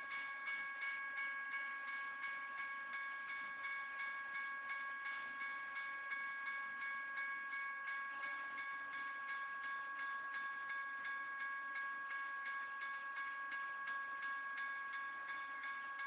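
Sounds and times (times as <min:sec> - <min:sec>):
crossing bell ringing: 0:00.0 - 0:16.0.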